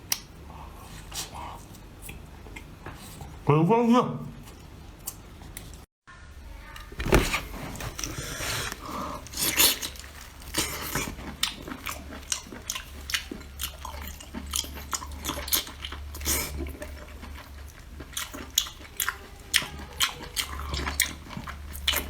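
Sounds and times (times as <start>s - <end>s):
wet chewing: 0.1s - 3.4s, 4.4s - 5.8s, 7.6s - 22.0s.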